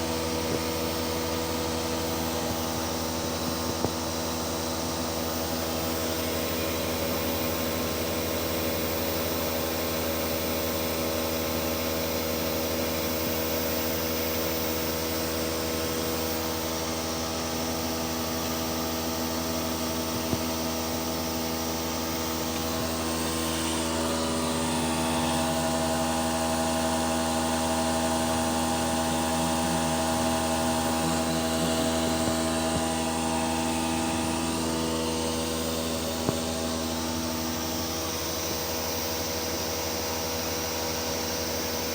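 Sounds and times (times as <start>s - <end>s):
high-pitched machine whine: 0.0s - 41.9s
machine motor hum with whine: 0.0s - 41.9s.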